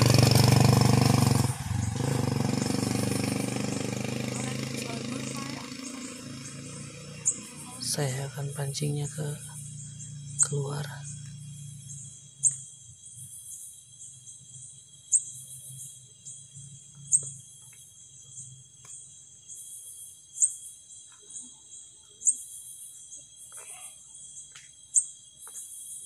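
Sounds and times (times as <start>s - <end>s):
high insect trill: 0.0s - 26.0s
sharp high insect chirp: 0.0s - 26.0s.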